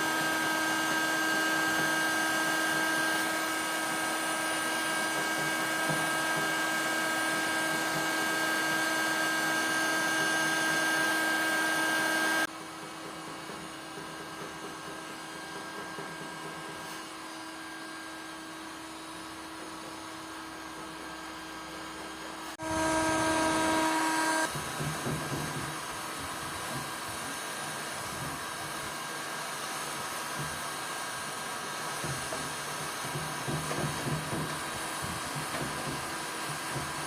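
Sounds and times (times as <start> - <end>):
power tool motor whining: 0.0 - 12.5, 13.8 - 37.0.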